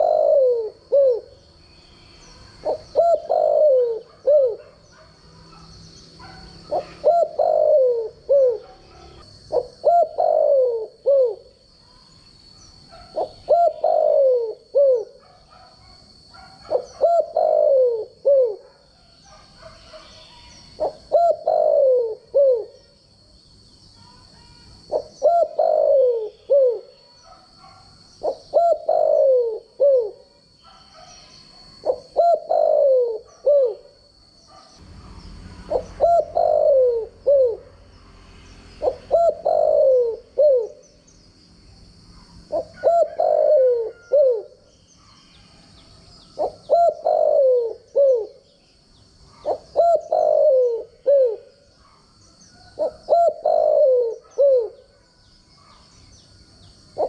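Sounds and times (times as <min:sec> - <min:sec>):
dove cooing: 0:00.0 - 0:01.4, 0:02.3 - 0:11.8, 0:12.9 - 0:23.0, 0:24.8 - 0:34.8, 0:35.5 - 0:37.8, 0:38.8 - 0:41.0, 0:42.0 - 0:48.6, 0:49.2 - 0:55.0.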